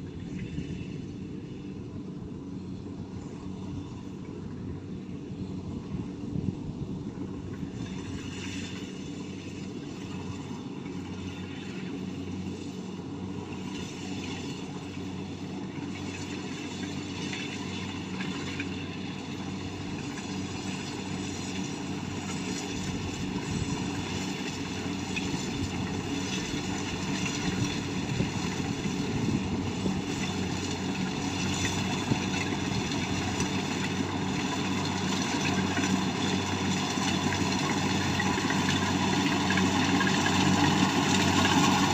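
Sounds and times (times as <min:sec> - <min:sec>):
combine harvester engine humming: 0:00.0 - 0:41.9.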